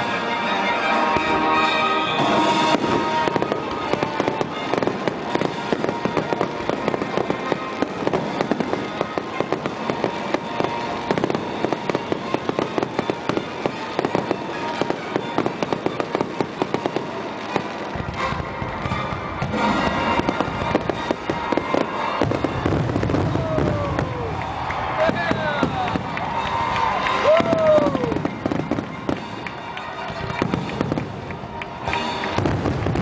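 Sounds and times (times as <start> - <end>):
fireworks barrage: 0.0 - 33.0.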